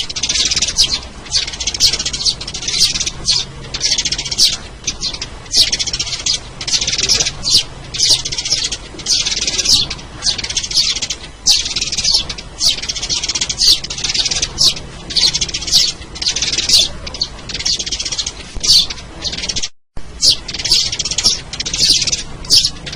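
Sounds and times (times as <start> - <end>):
sparrows chirping: 0.0 - 22.9.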